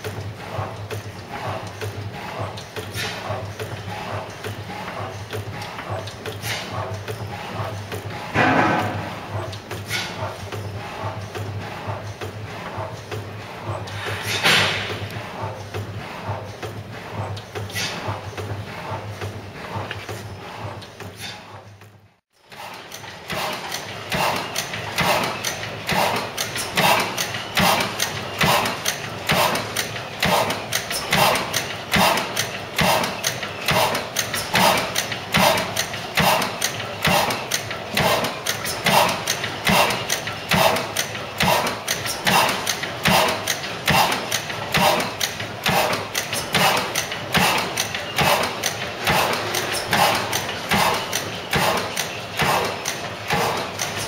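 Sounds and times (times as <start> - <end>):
stationary engine clattering: 0.0 - 54.0.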